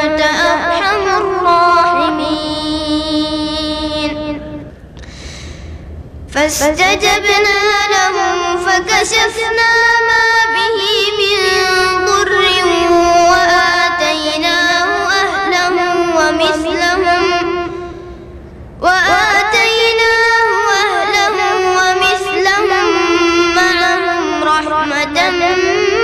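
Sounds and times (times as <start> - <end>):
high voice singing unaccompanied: 0.0 - 4.8, 6.3 - 18.0, 18.8 - 26.0.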